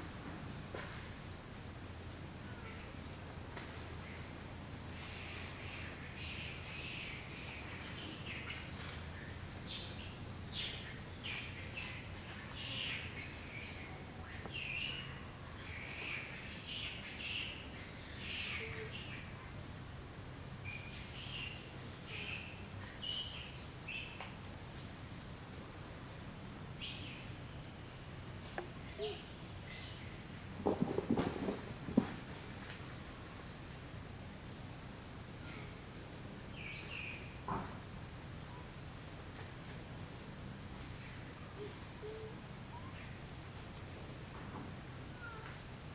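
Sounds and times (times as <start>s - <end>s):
high insect drone: 0.0s - 45.9s
small birds chirping: 1.6s - 19.6s, 20.5s - 26.0s, 26.6s - 30.5s, 32.5s - 45.9s.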